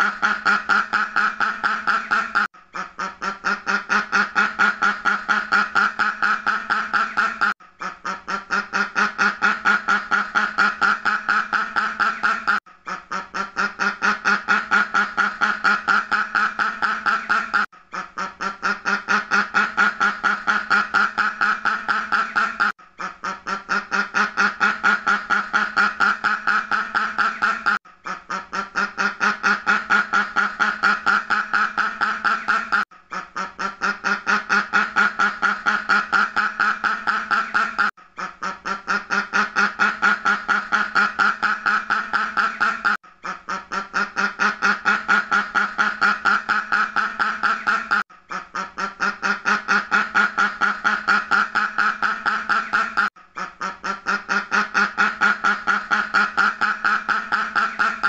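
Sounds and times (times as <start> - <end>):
duck quacking rapidly: 0.0 - 58.0.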